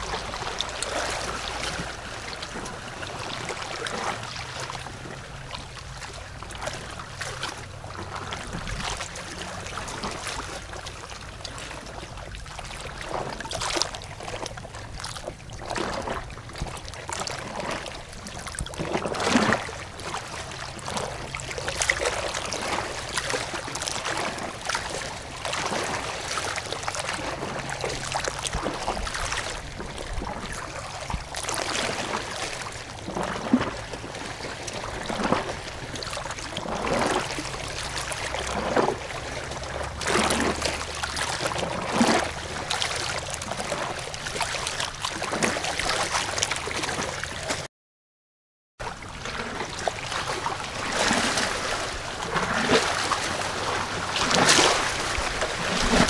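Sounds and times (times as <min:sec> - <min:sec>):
water sloshing: 0:00.0 - 0:47.7, 0:48.8 - 0:56.0
water splashing and gurgling: 0:00.0 - 0:47.7, 0:48.8 - 0:56.0.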